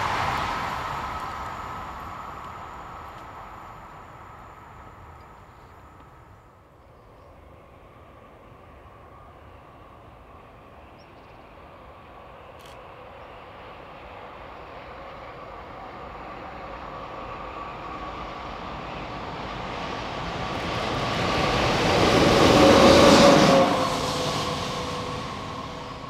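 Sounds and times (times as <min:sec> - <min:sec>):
train approaching with whine: 0:00.0 - 0:26.0.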